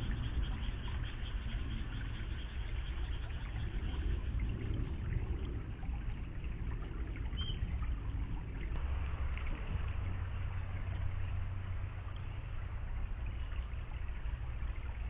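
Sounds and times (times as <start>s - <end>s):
low rumble: 0.0s - 15.0s
river water trickling: 0.0s - 15.0s.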